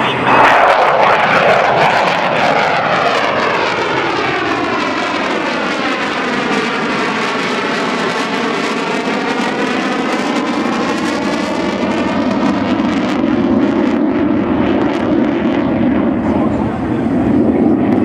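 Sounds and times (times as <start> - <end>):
jet making a low pass: 0.0 - 18.0.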